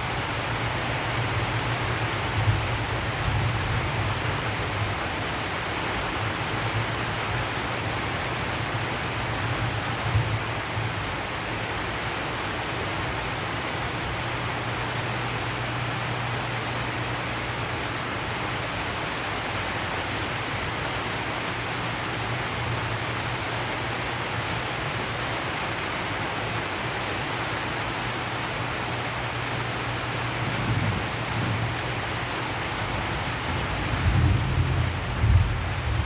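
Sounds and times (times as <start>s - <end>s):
rain on metal roof: 0.0s - 36.0s.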